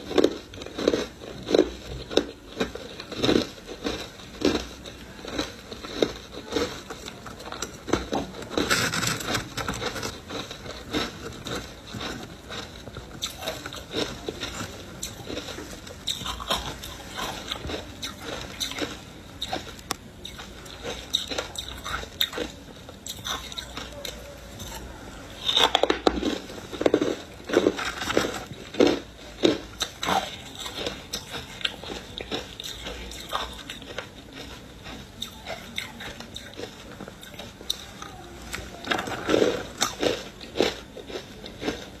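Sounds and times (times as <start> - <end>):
ice crunching being chewed: 0.0 - 42.0.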